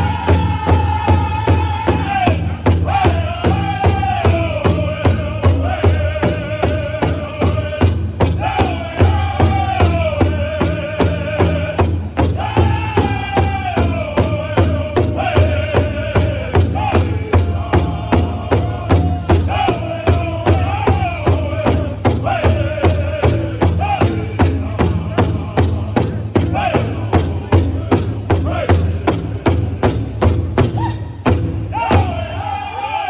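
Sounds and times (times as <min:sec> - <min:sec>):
men singing in unison: 0:00.0 - 0:29.8, 0:31.7 - 0:33.0
large drum beating: 0:00.0 - 0:32.4.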